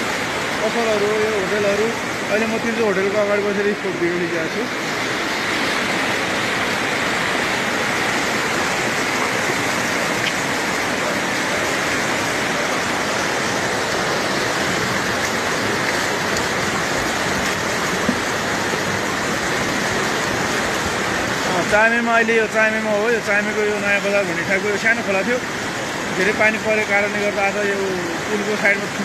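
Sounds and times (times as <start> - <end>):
floodwater rushing down road: 0.0 - 29.0.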